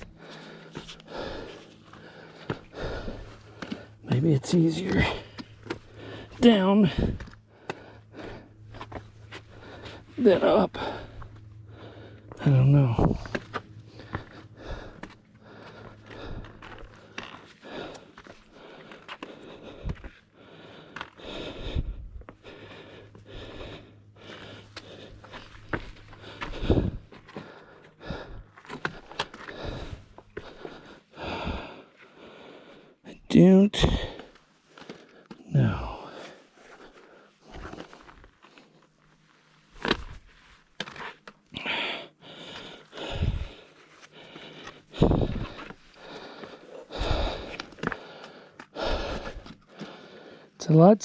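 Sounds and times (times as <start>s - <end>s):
footsteps on rocky trail: 0.0s - 31.8s, 33.7s - 50.4s
person breathing hard: 0.0s - 33.1s, 33.8s - 50.6s.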